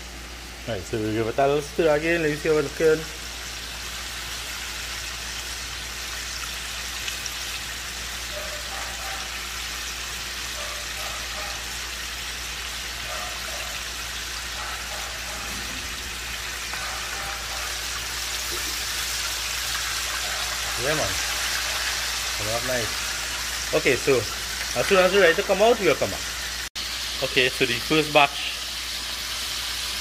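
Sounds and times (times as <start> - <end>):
chicken deep-frying in oil: 0.0 - 30.0.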